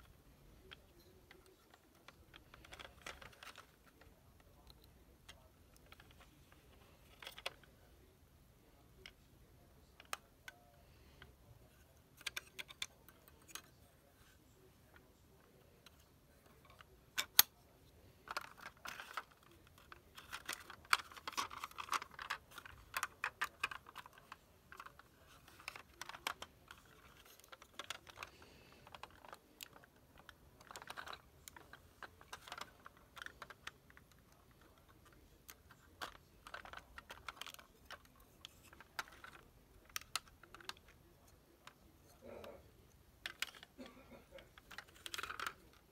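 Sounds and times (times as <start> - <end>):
plastic toy car clicks and rattles: 0.0 - 7.8, 11.7 - 17.6, 18.2 - 45.9.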